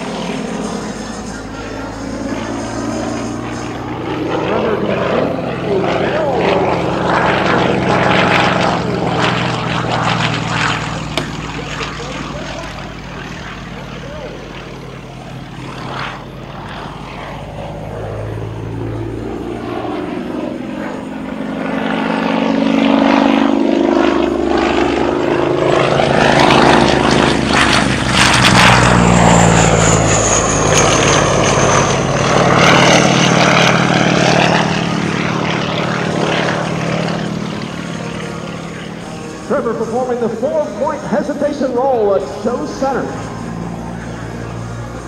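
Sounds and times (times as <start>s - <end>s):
propeller plane engine passing: 0.0s - 45.0s.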